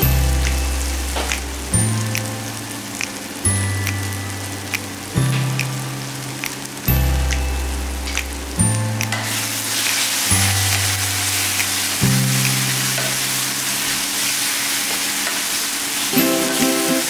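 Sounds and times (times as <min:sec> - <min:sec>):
background music low notes: 0:00.0 - 0:14.1, 0:16.1 - 0:17.0
masala sizzling in hot oil: 0:00.0 - 0:17.0.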